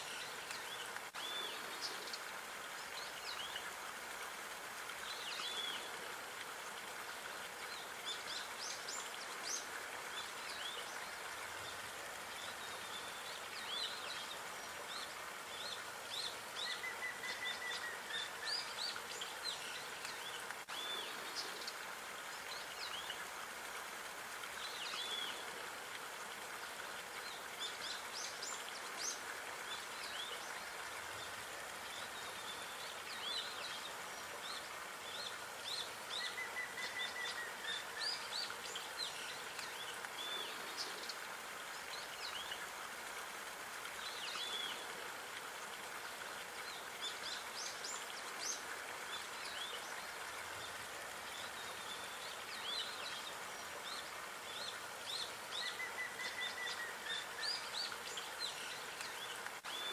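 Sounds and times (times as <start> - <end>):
background hiss: 0.0 - 59.9
songbirds chirping: 0.0 - 59.9.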